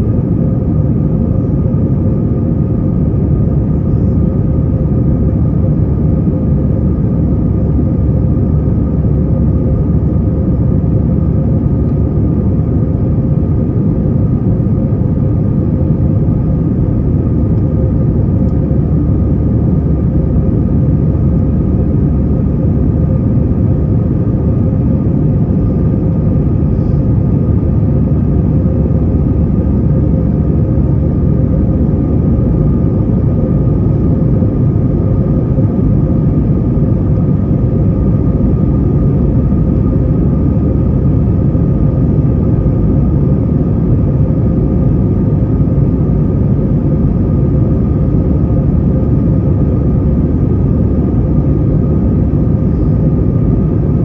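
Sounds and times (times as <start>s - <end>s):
aircraft engines and airflow rumble: 0.0s - 54.0s.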